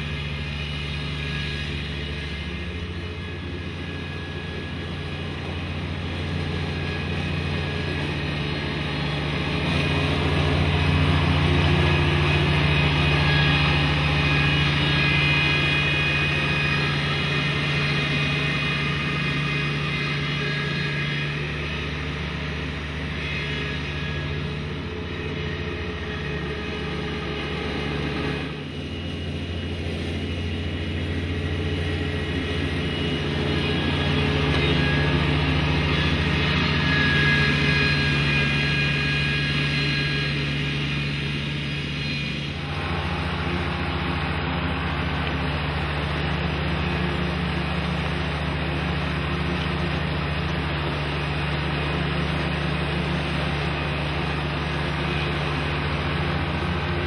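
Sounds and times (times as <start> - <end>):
mower engine cutting grass: 0.0 - 57.0.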